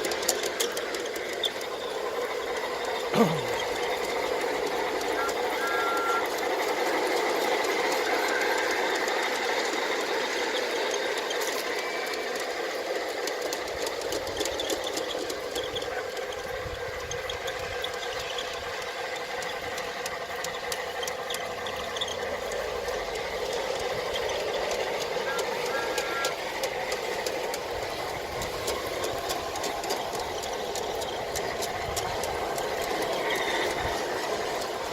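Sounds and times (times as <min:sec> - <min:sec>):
model train motor whir: 0:00.0 - 0:34.9
wheels clicking on rails: 0:00.0 - 0:34.9.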